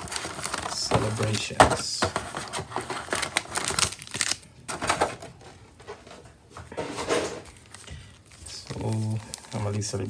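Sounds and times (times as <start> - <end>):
foil wrappers crinkling: 0.0 - 5.5, 7.3 - 10.0.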